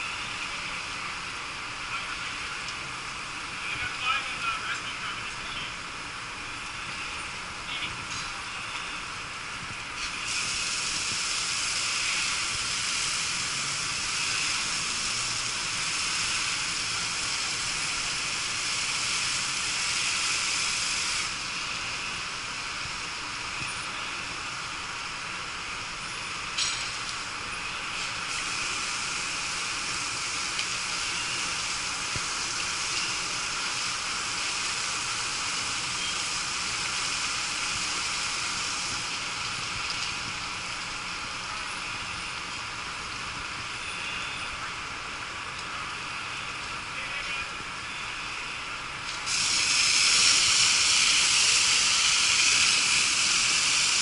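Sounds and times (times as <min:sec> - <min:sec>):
fire hose spraying water: 0:00.0 - 0:54.0.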